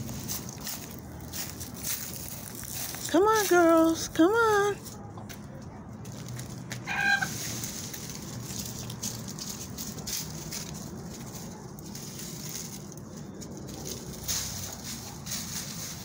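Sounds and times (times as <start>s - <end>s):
chickens scratching through dry leaves: 0.0s - 5.0s, 5.9s - 16.0s.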